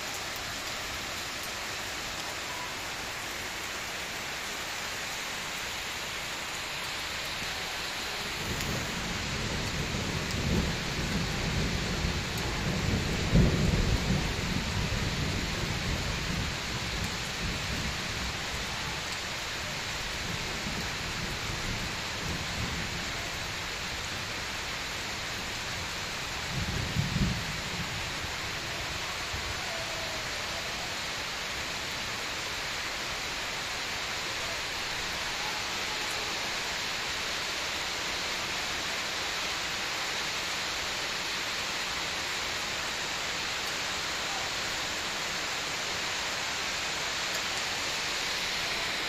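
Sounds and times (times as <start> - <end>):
steady rain: 0.0 - 49.0.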